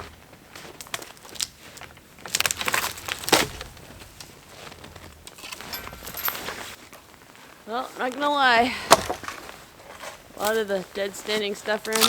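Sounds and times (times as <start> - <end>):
dead wood crackling and crunching: 0.0 - 12.0.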